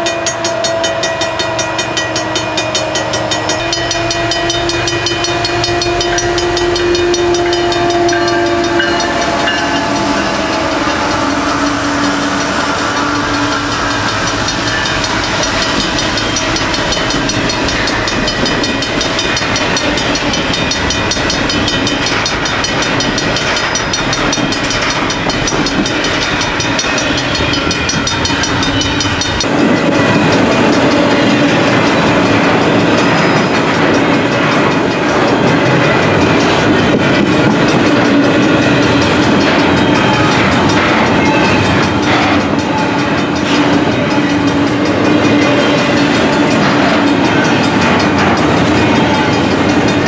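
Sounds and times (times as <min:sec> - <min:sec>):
freight train wheels clicking over rails: 0:00.0 - 0:50.0.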